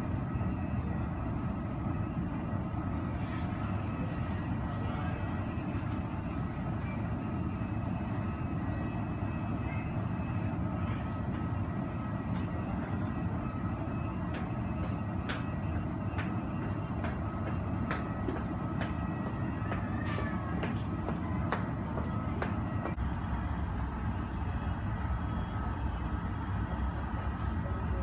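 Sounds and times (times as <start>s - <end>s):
faint steady whine: 0.0s - 28.0s.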